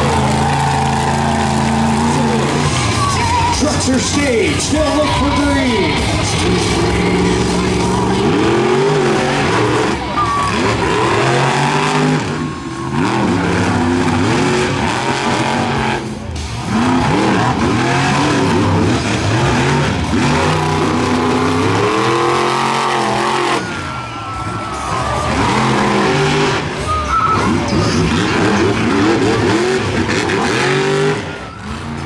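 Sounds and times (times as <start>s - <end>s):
monster truck engines racing: 0.0s - 32.0s.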